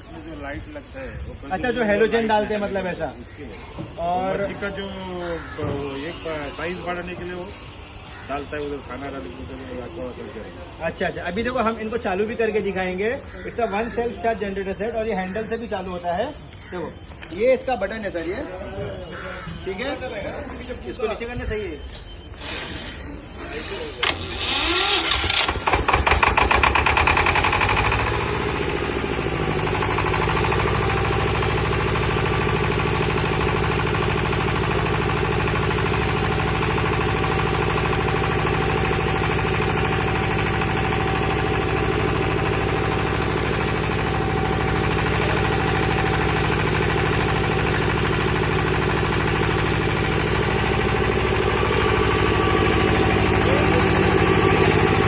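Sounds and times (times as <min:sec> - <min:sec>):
diesel generator running: 0:00.0 - 0:55.0.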